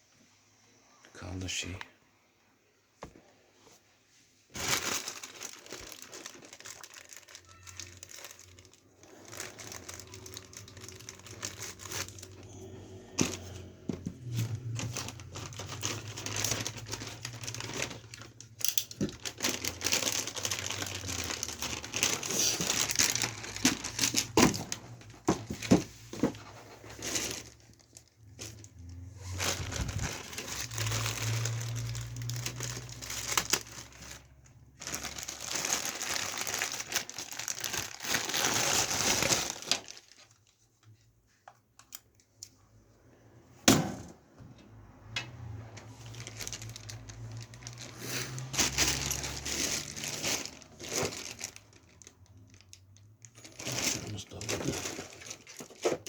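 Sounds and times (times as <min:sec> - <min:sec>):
crinkling and rustling: 0:03.0 - 0:42.8, 0:43.7 - 0:56.0.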